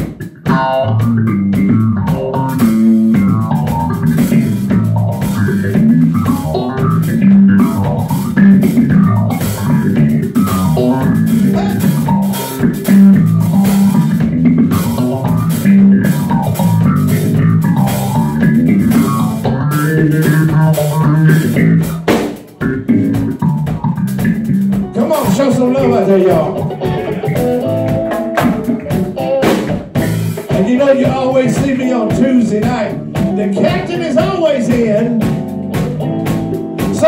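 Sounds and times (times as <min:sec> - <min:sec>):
electric bass line: 0:00.0 - 0:37.0
funk band playing: 0:00.0 - 0:37.0.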